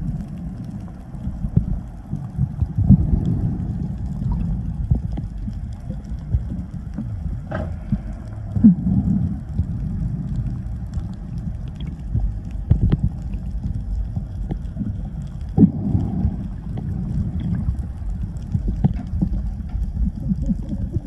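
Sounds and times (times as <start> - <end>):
underwater rumble and churning water: 0.0 - 21.0.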